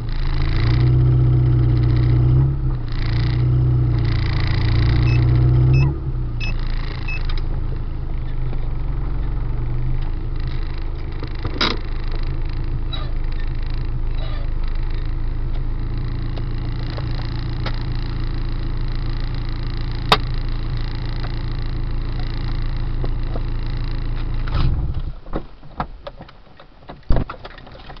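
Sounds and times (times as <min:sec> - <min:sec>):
car engine rumble: 0:00.0 - 0:28.0.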